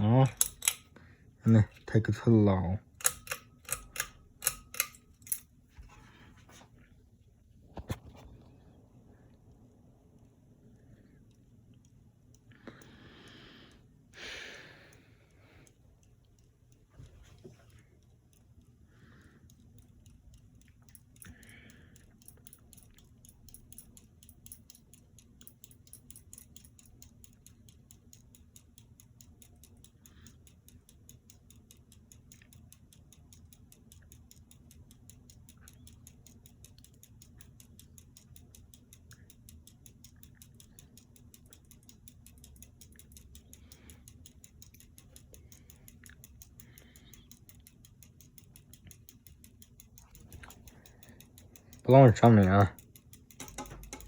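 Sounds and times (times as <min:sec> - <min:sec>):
fan ticking: 0:00.0 - 0:06.6, 0:09.2 - 0:54.0
ceiling fan hum: 0:00.0 - 0:54.0.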